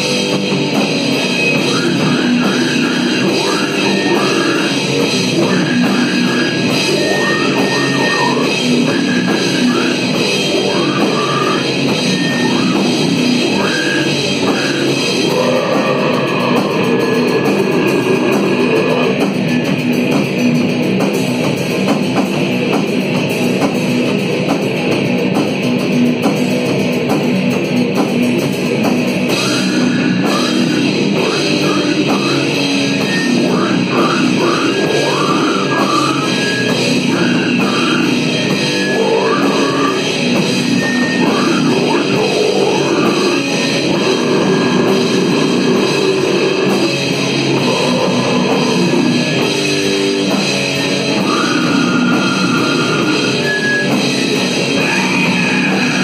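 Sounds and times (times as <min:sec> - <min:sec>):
higher wavering guitar line: 0:00.0 - 0:20.0, 0:29.3 - 0:56.0
heavy distorted metal song: 0:00.0 - 0:56.0.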